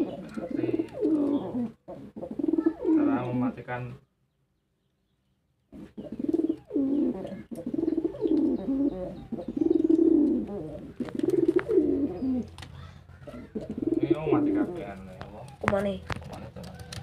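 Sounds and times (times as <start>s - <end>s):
pigeons cooing: 0.0s - 3.7s, 5.7s - 17.0s.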